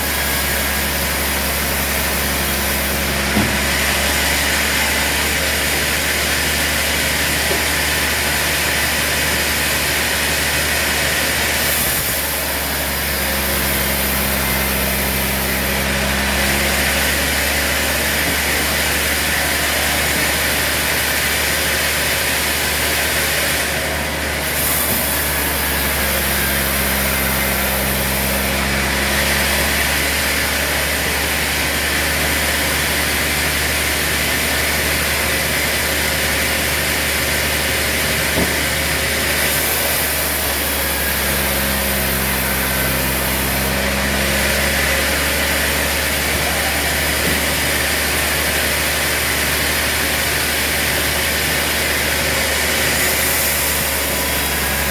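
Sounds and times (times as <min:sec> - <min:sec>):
sawmill machinery drone: 0:00.0 - 0:54.9.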